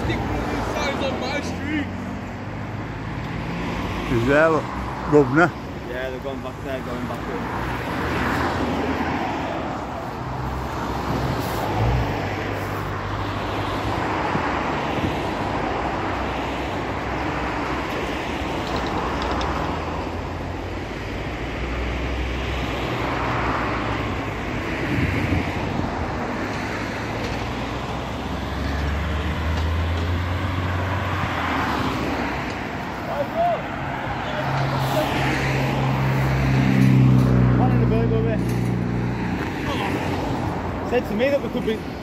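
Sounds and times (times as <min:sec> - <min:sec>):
cars driving past: 0:00.0 - 0:42.0
steady low traffic rumble: 0:00.0 - 0:42.0.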